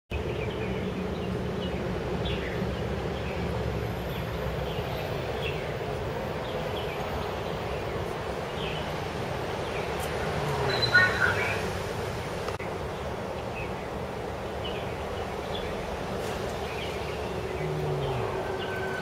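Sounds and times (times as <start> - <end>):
birds chirping: 0.1 - 19.0.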